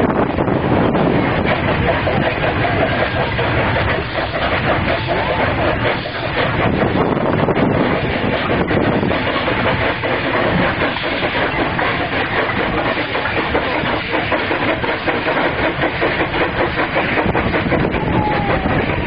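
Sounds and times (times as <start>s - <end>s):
steam hissing: 0.0s - 19.0s
steam locomotives chuffing: 0.0s - 19.0s
train rumbling on rails: 0.0s - 19.0s.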